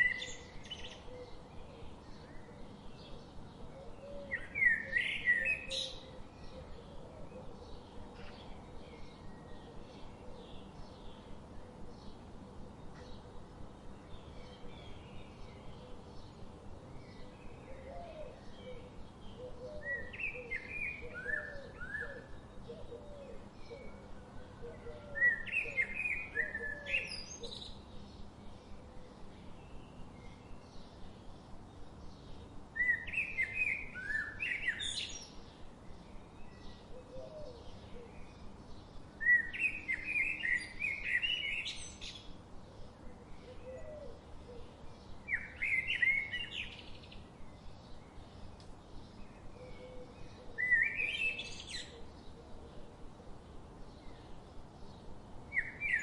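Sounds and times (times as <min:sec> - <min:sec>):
faint outdoor background: 0:00.0 - 0:56.0
songbirds chirping and whistling: 0:00.0 - 0:56.0.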